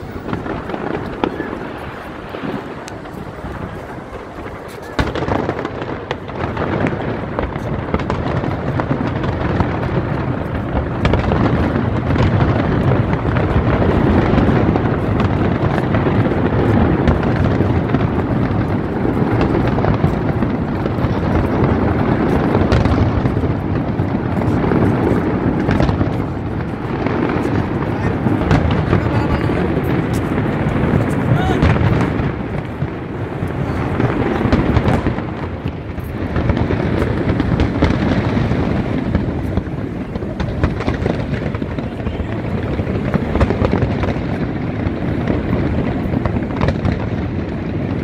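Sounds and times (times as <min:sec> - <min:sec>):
fireworks booms and crackle: 0:00.0 - 0:48.0
sharp firework bangs: 0:00.0 - 0:48.0.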